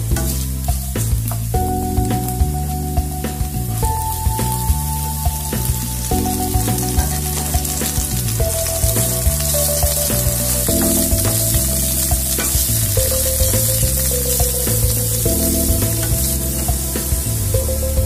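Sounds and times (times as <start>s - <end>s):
background music: 0.0s - 18.0s
onions sizzling in hot oil: 0.1s - 18.0s.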